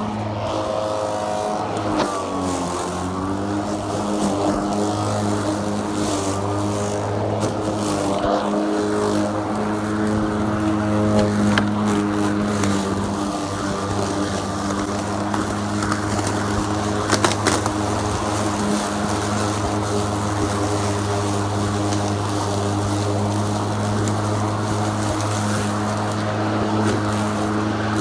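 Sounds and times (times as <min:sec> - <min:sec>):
push mower humming: 0:00.0 - 0:28.0.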